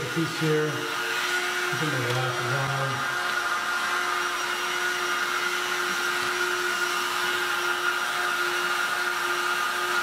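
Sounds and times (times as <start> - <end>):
hot-air gun running: 0.0 - 10.0.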